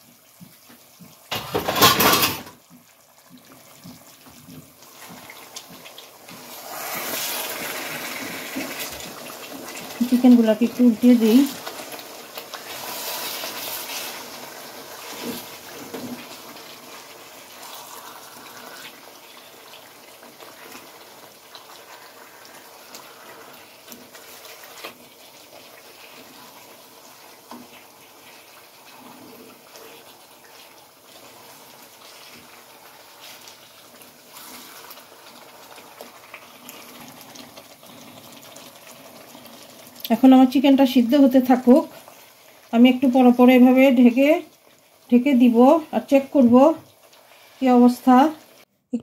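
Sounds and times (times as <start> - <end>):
chicken sizzling in sauce: 0.0 - 48.7.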